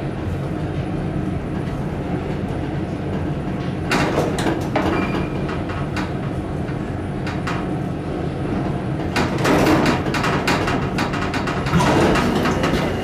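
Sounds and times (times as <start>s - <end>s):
elevator car rumbling: 0.0s - 13.0s
clacks and rattles: 1.6s - 7.8s, 8.5s - 13.0s.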